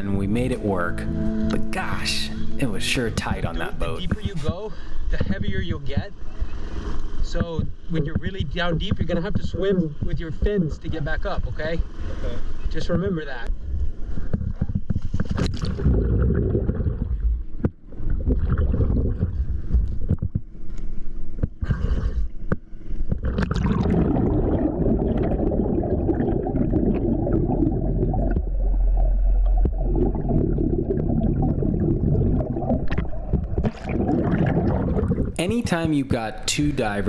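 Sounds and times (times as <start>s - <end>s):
water bubbling and sloshing: 0.0s - 36.3s.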